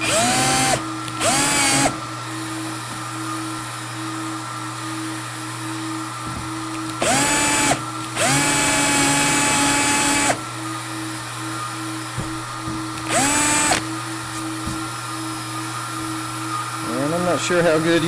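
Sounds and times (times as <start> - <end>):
cordless drill whining: 0.0 - 18.0
plastic welder humming: 0.0 - 18.0.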